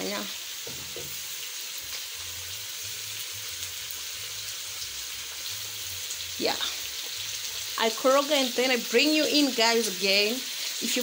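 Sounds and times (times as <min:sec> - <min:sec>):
chicken sizzling in pot: 0:00.0 - 0:11.0.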